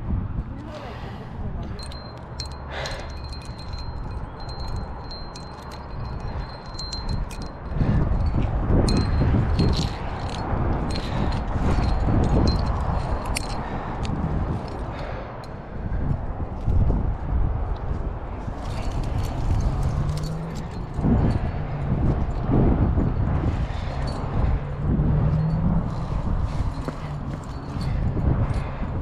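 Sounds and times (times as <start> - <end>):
climbing gear jingling and clinking: 1.6 - 15.6, 18.4 - 29.0.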